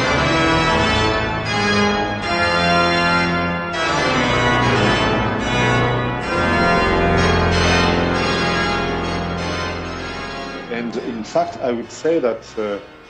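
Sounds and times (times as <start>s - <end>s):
pipe organ chords: 0.0s - 13.0s.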